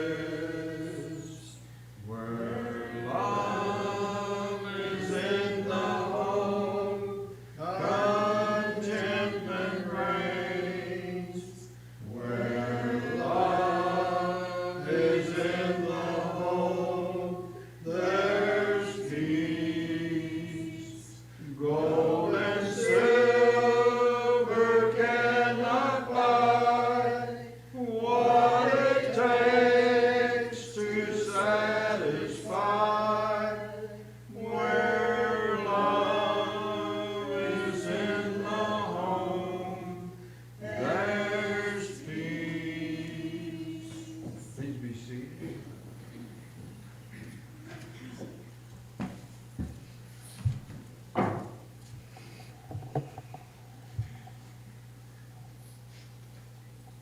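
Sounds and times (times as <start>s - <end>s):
congregation singing a hymn: 0.0s - 48.2s
steady low hum: 0.0s - 57.0s.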